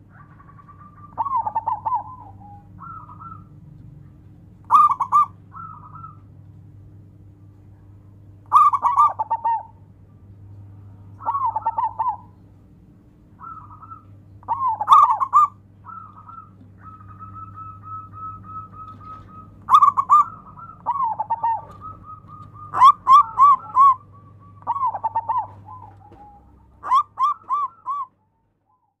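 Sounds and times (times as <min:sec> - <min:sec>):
dove cooing: 0:00.0 - 0:06.4, 0:07.7 - 0:09.9, 0:11.0 - 0:12.5, 0:13.3 - 0:29.0.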